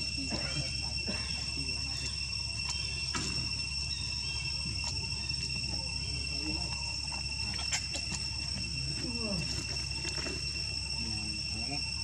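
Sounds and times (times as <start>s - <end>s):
insects trilling: 0.0s - 12.0s
low hum: 0.0s - 12.0s.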